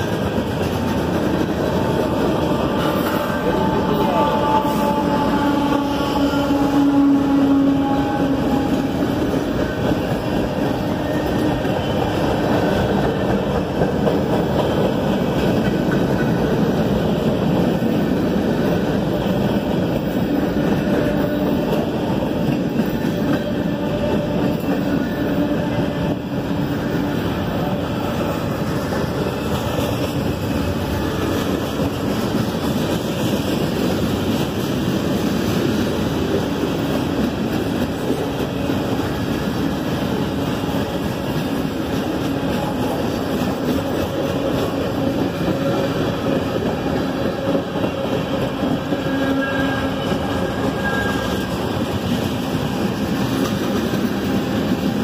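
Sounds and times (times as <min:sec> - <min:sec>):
freight train cars rolling: 0:00.0 - 0:55.0.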